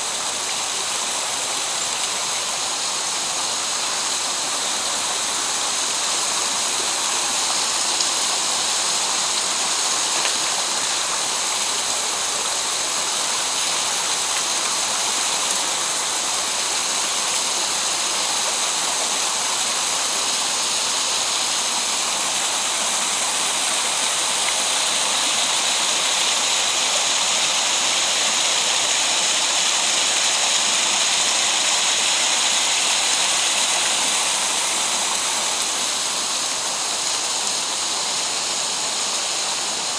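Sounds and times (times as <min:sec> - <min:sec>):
stream tumbling over rocks: 0:00.1 - 0:39.9.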